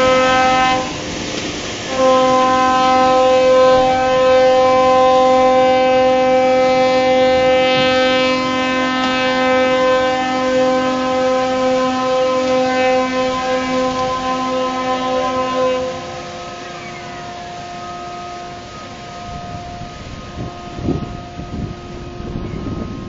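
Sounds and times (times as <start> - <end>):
ship's horn long blast: 0.0 - 23.0
water rushing: 0.0 - 23.0.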